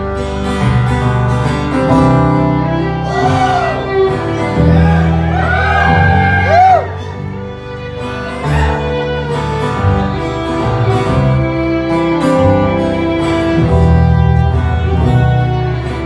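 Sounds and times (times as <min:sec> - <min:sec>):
acoustic guitar: 0:00.0 - 0:16.0
sliding lead guitar line: 0:00.0 - 0:16.0.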